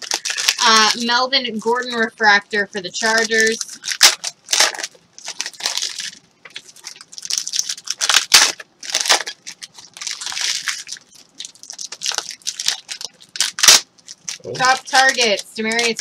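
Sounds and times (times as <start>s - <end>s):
cards and foil wrappers crinkling: 0.0s - 16.0s.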